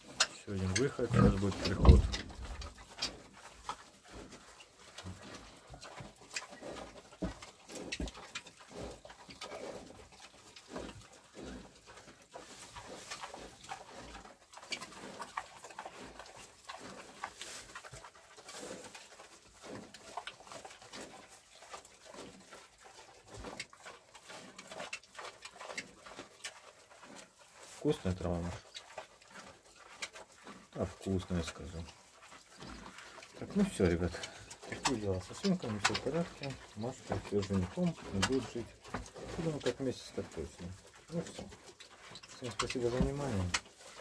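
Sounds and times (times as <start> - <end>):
pigs chewing and munching: 0.0 - 44.0
pigs grunting: 0.0 - 44.0
stems rustling: 0.0 - 44.0.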